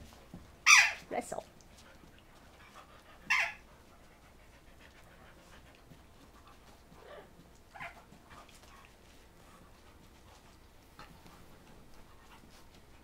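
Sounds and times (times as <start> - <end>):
dogs scuffling: 0.0 - 13.0
dogs panting: 1.5 - 13.0.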